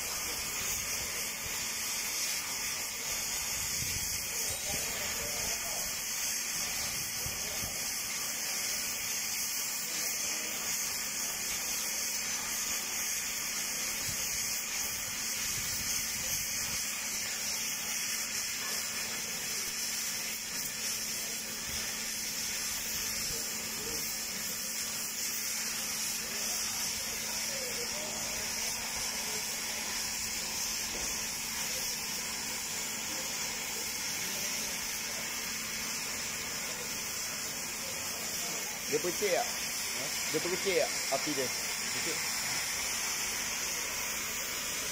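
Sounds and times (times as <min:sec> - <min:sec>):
torch flame hissing: 0:00.0 - 0:44.9.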